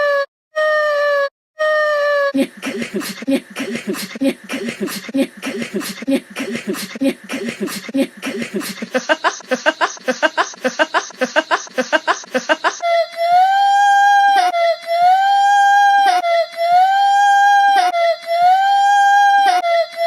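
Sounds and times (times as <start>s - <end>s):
person making rapid vocal pulses: 2.4s - 18.7s.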